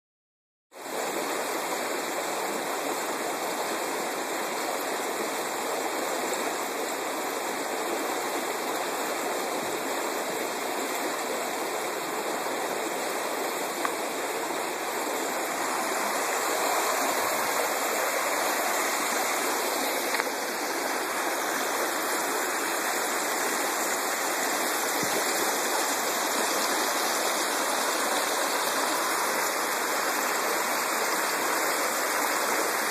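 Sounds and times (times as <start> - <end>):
water rushing over spillway: 0.8 - 32.9.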